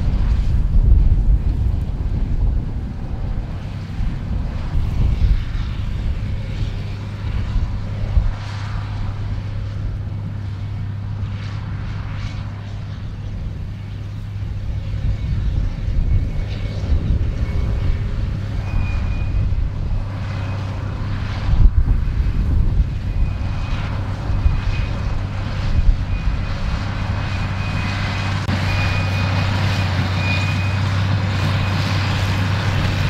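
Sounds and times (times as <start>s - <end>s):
tractor diesel engine droning: 0.0s - 33.0s.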